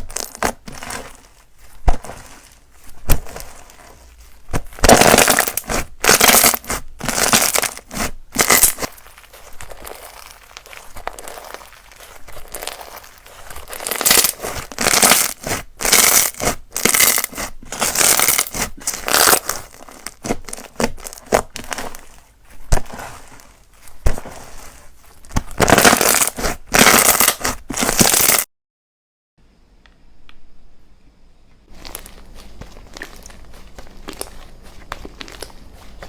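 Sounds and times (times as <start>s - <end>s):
slime squished by hand: 0.0s - 28.5s, 31.7s - 36.0s.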